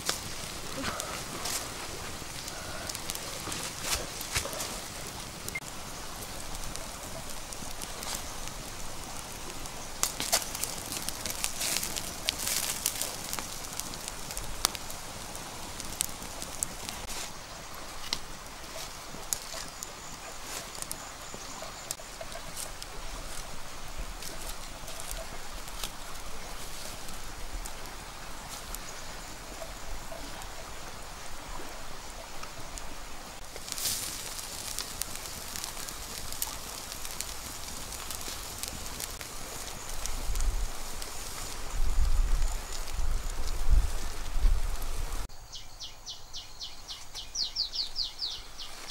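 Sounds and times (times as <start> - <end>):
wood fire crackling and popping: 0.0 - 45.3.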